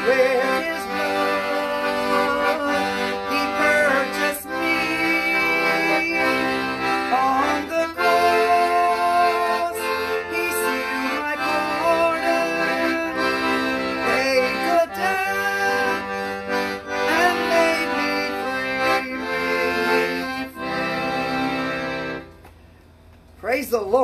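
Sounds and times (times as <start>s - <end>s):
piano accordion chords: 0.0s - 22.5s.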